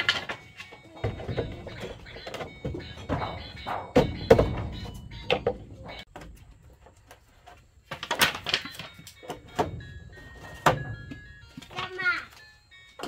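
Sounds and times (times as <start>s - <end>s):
objects knocking and thudding: 0.0s - 11.8s.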